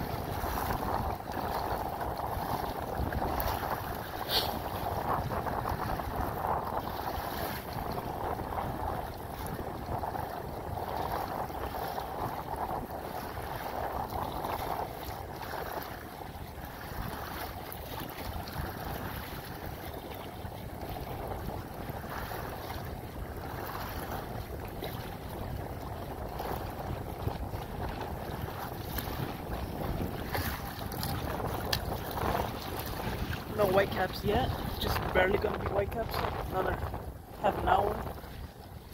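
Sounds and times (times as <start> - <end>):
water splashing against kayak hull: 0.0 - 38.9
wind blowing across microphone: 0.0 - 38.9.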